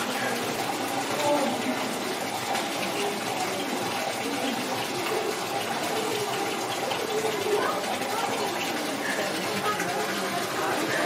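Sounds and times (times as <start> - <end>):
water rushing into pool: 0.0 - 11.0.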